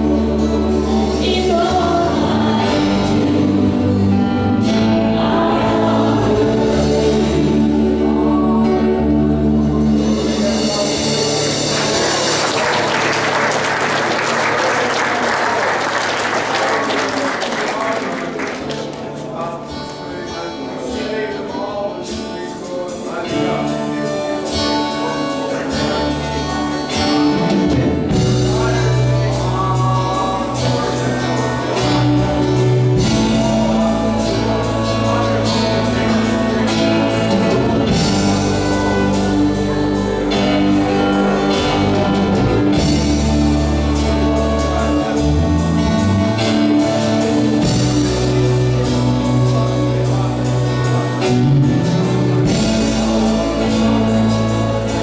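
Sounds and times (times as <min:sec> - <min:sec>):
person singing: 0:00.0 - 0:13.3, 0:21.5 - 0:55.0
worship band playing: 0:00.0 - 0:55.0.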